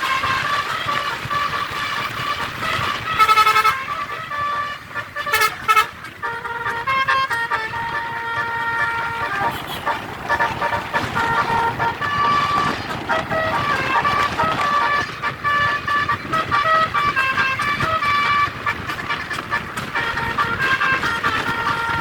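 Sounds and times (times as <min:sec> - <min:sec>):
bus horn playing a tune: 0:00.0 - 0:22.0.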